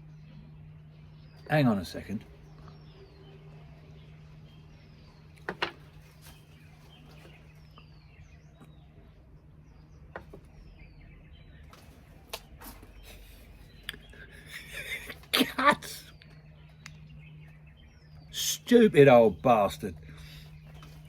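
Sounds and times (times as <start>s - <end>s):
faint bird chirps: 0.0s - 21.0s
steady low hum: 0.0s - 21.0s.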